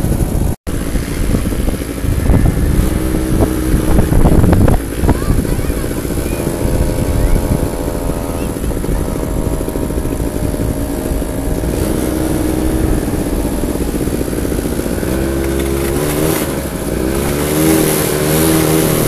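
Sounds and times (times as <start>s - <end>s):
atv engines revving: 0.0s - 19.0s.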